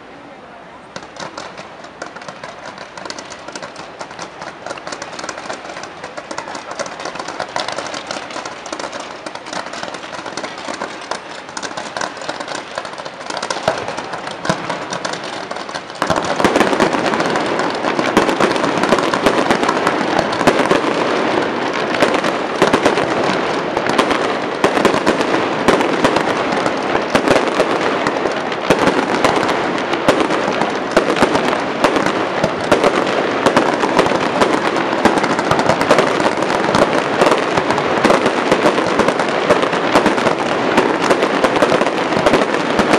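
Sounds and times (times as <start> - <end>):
fireworks popping and banging: 0.9 - 42.9.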